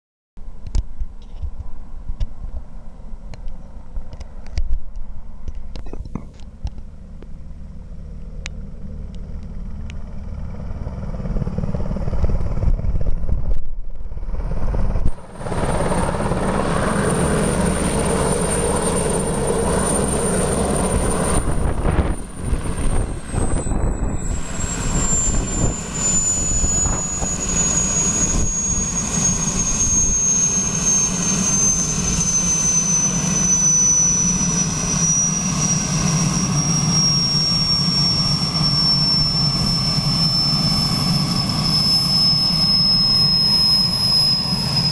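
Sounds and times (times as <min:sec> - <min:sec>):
high whine: 0:00.4 - 0:44.9
helicopter engine and rotor: 0:05.5 - 0:44.9.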